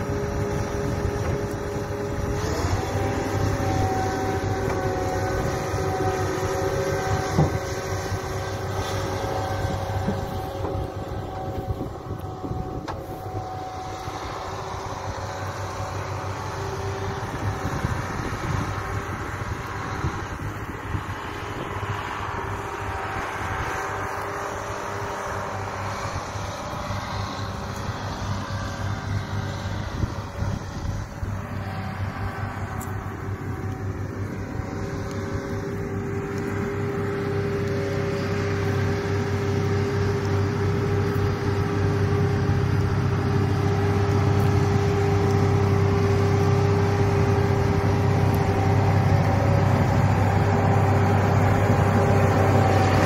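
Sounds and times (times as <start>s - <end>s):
diesel machinery rumbling: 0.0s - 53.0s.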